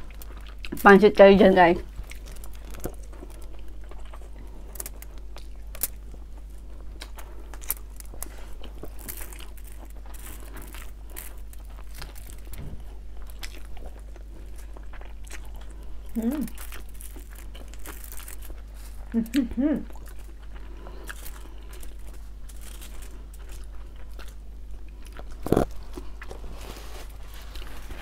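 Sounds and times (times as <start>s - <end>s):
steady low hum: 0.0s - 28.0s
soft chewing and lip smacks: 1.9s - 19.2s, 19.9s - 27.8s
fingers clicking and crinkling: 1.9s - 26.4s.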